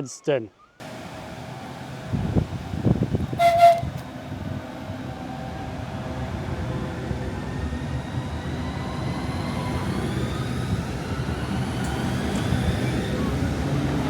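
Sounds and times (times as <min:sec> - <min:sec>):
electric train rumble: 0:00.8 - 0:14.0
train whine rising in pitch: 0:00.8 - 0:14.0.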